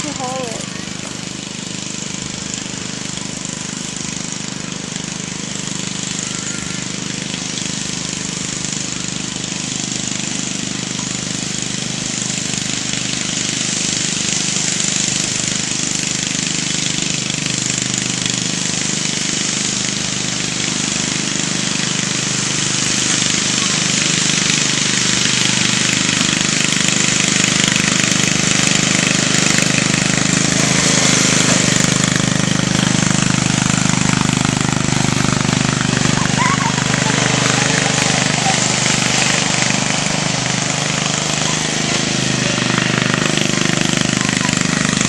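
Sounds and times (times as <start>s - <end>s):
riding lawn mower engine: 0.0s - 45.0s.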